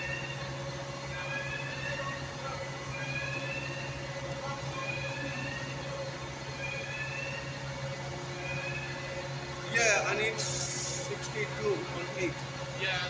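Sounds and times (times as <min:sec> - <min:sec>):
bus idling: 0:00.0 - 0:13.0
short rising whine: 0:00.0 - 0:13.0.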